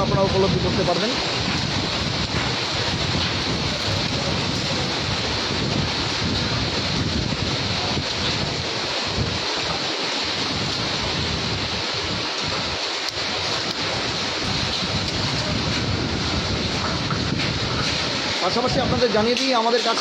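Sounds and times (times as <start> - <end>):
wind on microphone: 0.0 - 19.5
heavy rain and hail: 0.0 - 20.0.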